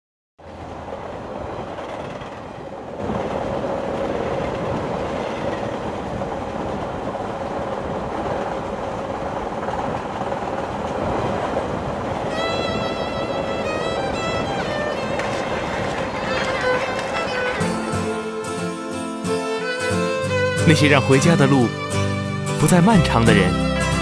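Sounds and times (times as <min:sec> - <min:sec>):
train rumbling and rattling: 0:00.4 - 0:24.0.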